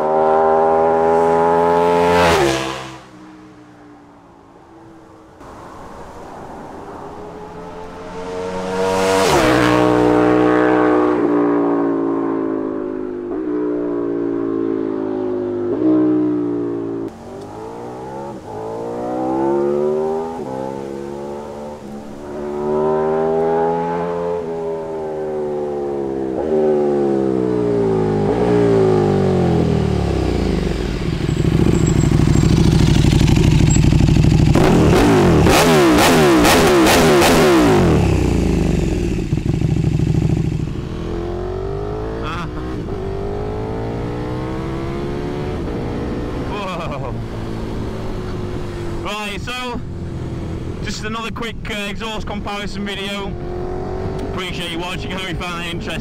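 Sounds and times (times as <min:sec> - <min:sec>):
motorcycle engine accelerating: 0:00.0 - 0:03.4, 0:07.2 - 0:51.0, 0:52.7 - 0:56.0.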